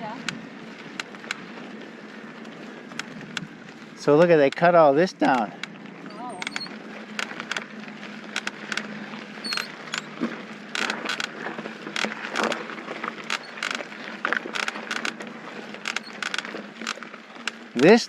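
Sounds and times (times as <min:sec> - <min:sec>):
bike rattling and clicking: 0:00.0 - 0:18.0
bike tyre hum on dirt: 0:00.0 - 0:18.0.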